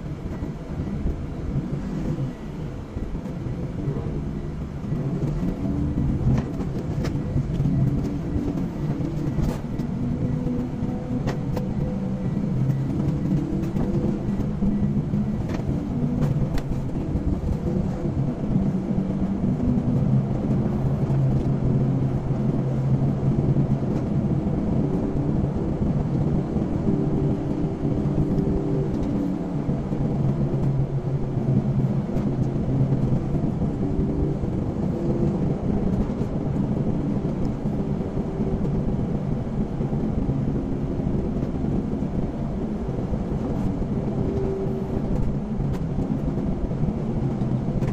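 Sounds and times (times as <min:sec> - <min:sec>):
car engine hum: 0:00.0 - 0:47.9.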